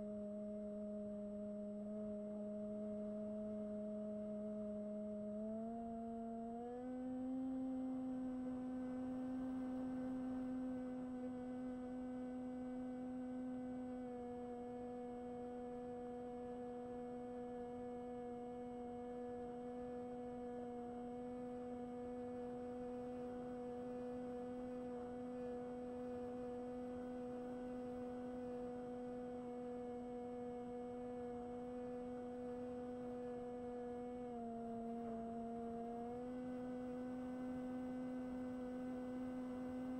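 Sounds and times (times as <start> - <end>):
model plane motor whine: 0.0 - 39.9.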